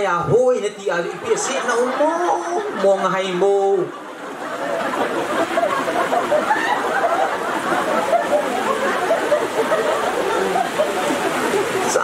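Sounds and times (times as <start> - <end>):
audience chatter and chuckling: 0.8 - 12.0.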